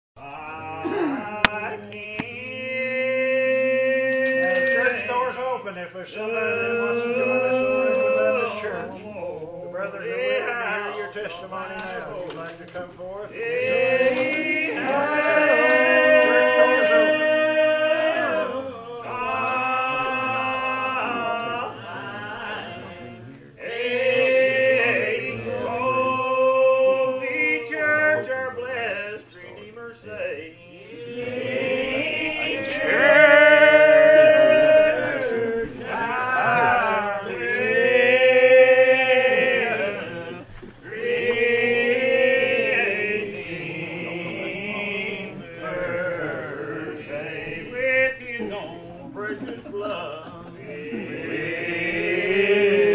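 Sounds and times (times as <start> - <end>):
unaccompanied hymn singing: 0.2 - 52.9.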